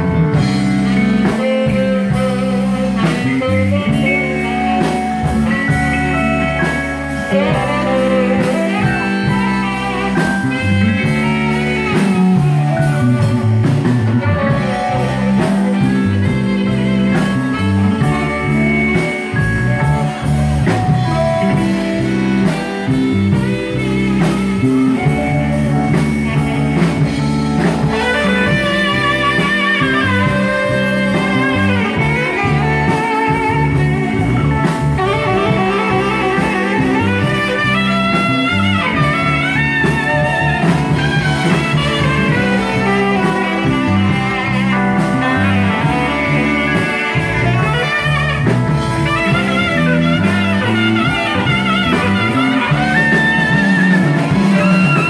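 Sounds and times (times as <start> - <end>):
band playing blues ballad: 0.0 - 55.0
lead line with strong vibrato: 0.0 - 55.0
saxophone: 0.0 - 55.0.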